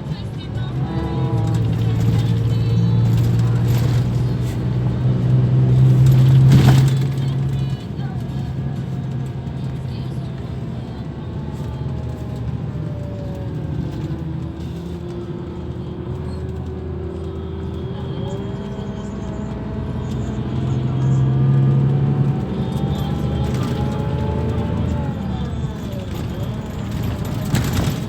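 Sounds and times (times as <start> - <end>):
bus engine humming: 0.0 - 28.0.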